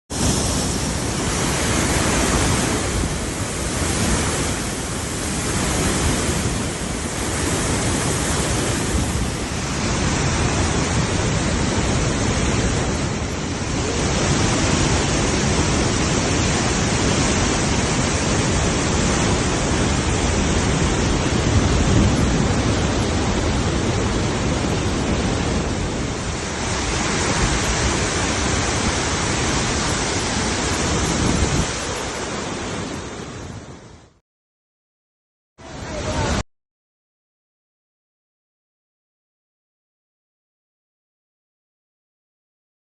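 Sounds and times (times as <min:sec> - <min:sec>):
waterfall rushing: 0:00.1 - 0:34.2, 0:35.6 - 0:36.4.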